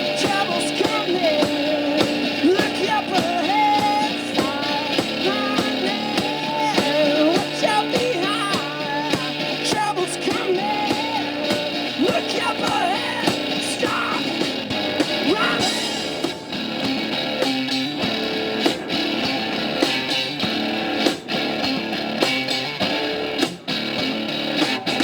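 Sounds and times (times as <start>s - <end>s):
drums: 0.0s - 25.0s
electric guitar: 0.0s - 25.0s.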